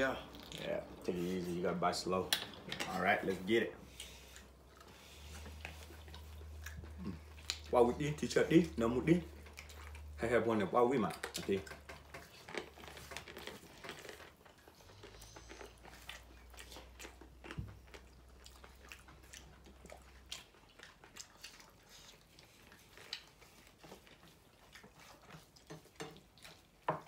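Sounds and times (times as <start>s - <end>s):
person chewing and crunching: 0.0s - 1.2s, 2.4s - 27.0s.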